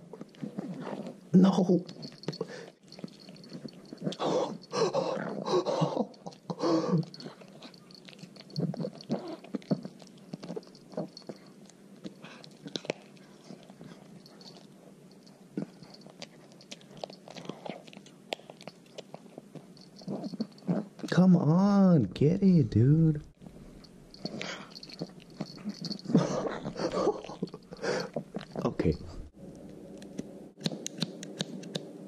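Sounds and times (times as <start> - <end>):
dog chewing and crunching bone: 0.0 - 21.1, 23.4 - 28.9.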